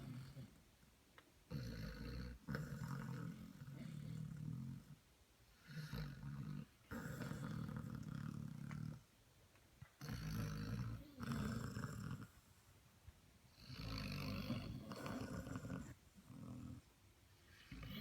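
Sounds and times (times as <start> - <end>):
puppies snoring: 0.0 - 0.7, 1.4 - 9.2, 10.0 - 12.7, 13.5 - 18.0.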